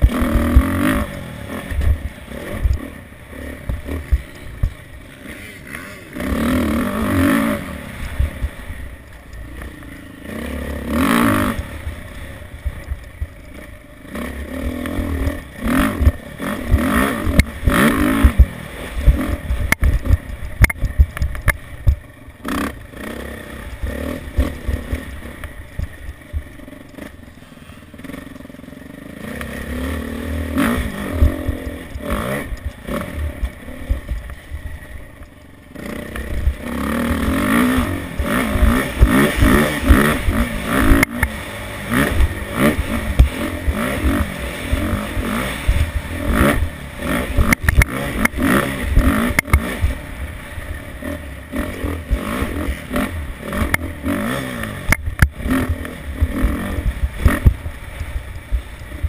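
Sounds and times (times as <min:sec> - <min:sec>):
motocross engine revving: 0:00.0 - 0:59.0.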